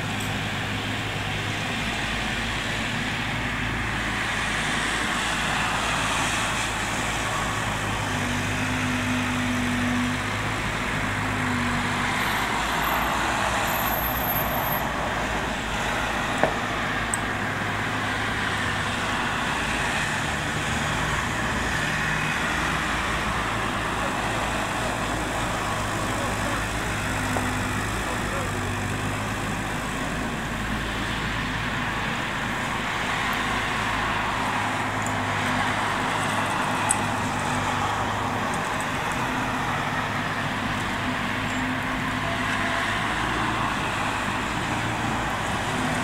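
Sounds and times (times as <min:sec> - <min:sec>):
cars passing: 0:00.0 - 0:46.0
excavator diesel engine running: 0:00.0 - 0:46.0.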